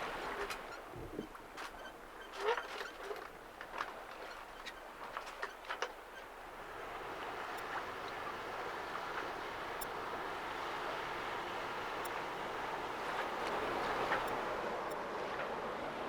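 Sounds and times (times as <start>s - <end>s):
water rushing along hull: 0.0s - 16.0s
wind: 0.0s - 16.0s.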